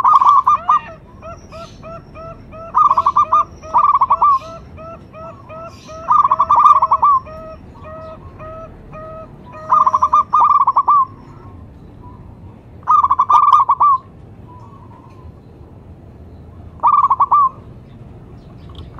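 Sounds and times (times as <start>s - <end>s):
dove trilled cooing: 0.0s - 15.4s, 16.8s - 17.8s
soft repeated bird call: 0.0s - 15.6s, 16.4s - 18.9s.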